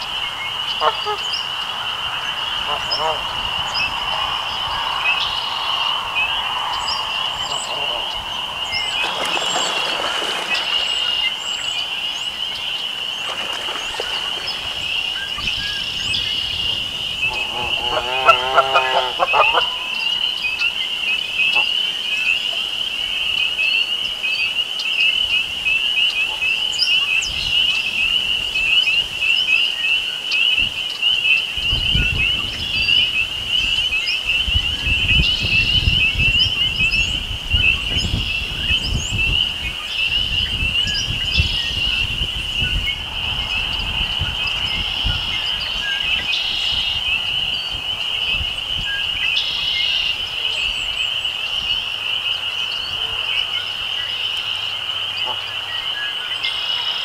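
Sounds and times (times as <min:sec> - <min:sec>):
blackbirds singing: 0:00.0 - 0:57.0
frogs peeping chorus: 0:00.0 - 0:57.0.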